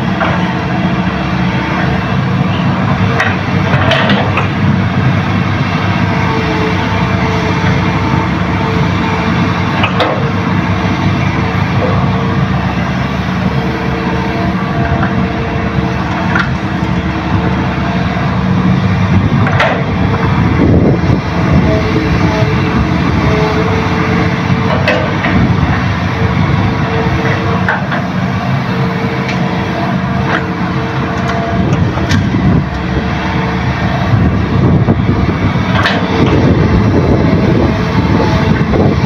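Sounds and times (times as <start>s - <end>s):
excavator diesel engines: 0.0s - 39.0s.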